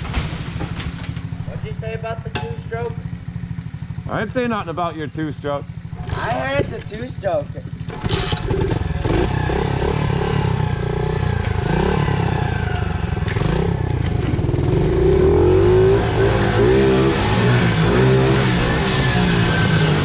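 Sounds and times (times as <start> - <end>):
small motorcycle engine running: 0.9 - 20.0.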